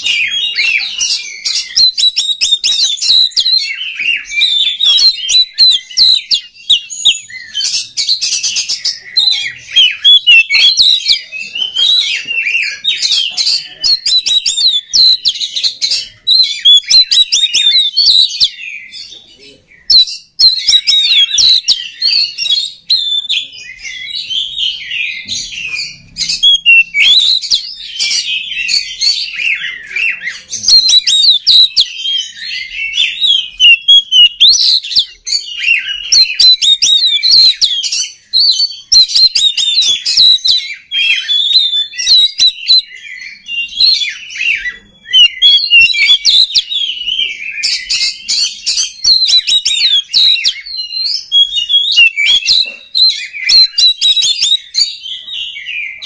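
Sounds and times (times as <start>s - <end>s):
magpie-robin singing: 0.0s - 56.0s.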